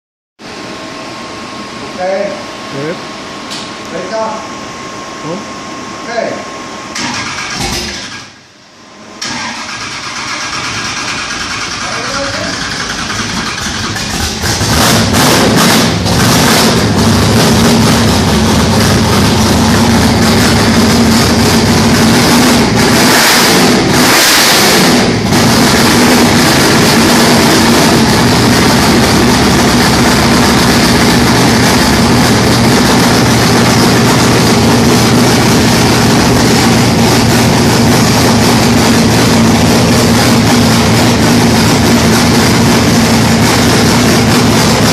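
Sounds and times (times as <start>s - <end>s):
loud car engine running: 6.9s - 8.6s, 9.2s - 44.9s.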